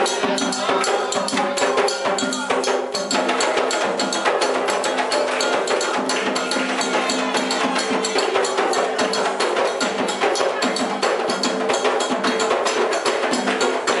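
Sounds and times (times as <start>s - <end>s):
hand drums and percussion: 0.0s - 14.0s.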